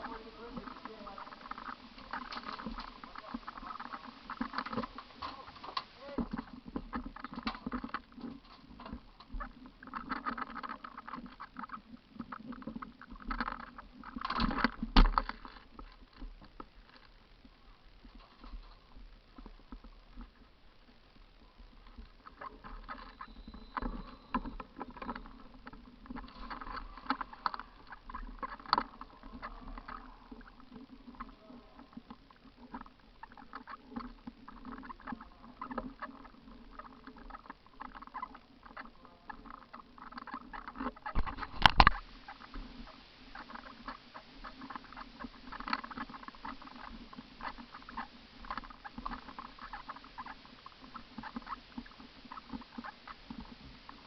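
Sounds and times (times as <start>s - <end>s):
rustling and crackling clicks: 0.0s - 54.0s.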